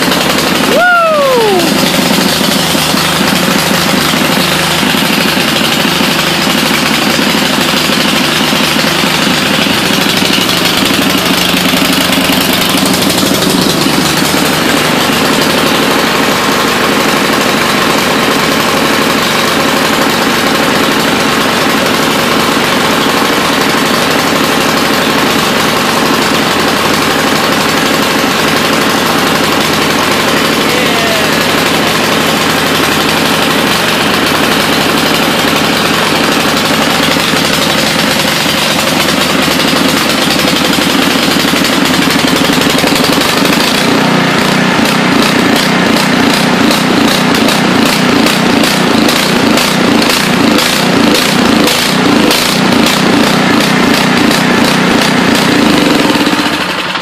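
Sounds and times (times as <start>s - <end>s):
snow blower engine running: 0.0s - 57.0s.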